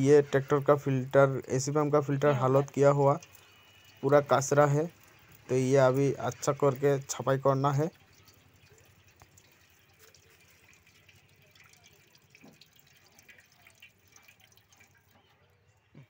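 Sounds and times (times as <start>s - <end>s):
diesel dripping onto steel plate: 0.0s - 15.4s.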